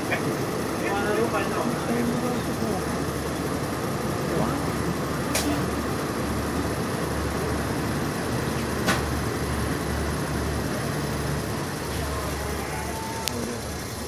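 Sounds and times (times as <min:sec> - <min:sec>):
train carriage rumbling: 0:00.0 - 0:14.0.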